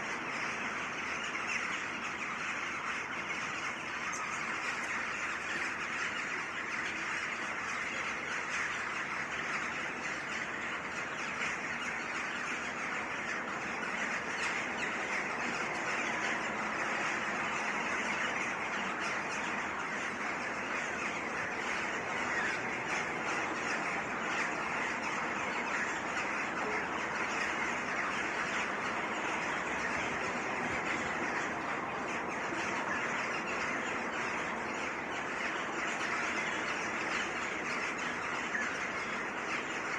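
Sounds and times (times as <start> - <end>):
chorus of birds calling: 0.0 - 39.9.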